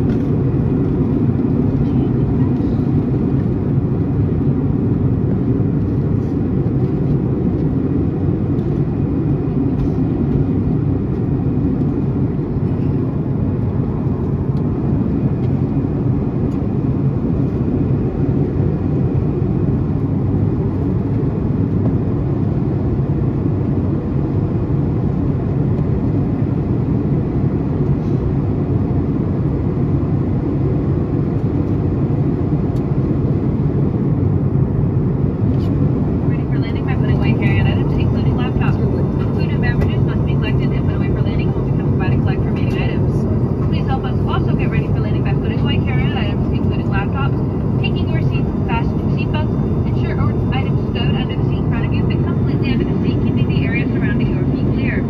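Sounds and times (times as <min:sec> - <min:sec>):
airflow over fuselage: 0:00.0 - 0:55.0
jet engine drone: 0:00.0 - 0:55.0.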